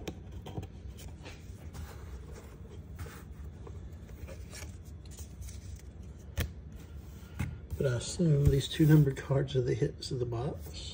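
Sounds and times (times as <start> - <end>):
hands rustling cardboard boxes: 0.4 - 9.2.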